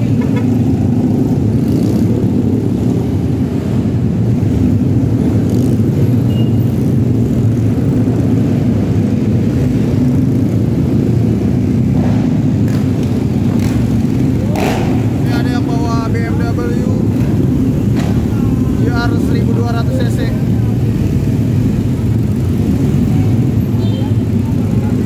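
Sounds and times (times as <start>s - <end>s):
motorcycle engines idling: 0.0s - 25.0s.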